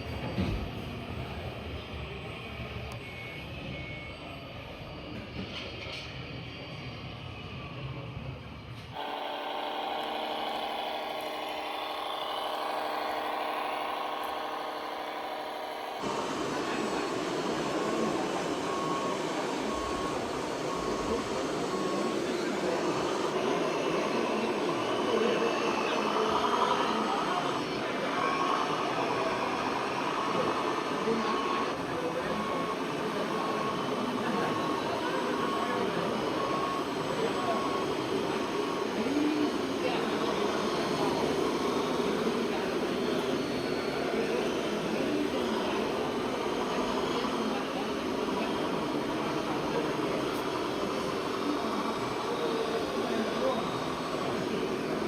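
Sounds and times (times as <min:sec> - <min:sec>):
rc model vehicle hum: 0:08.9 - 0:55.0
murmur of many voices: 0:09.9 - 0:55.0.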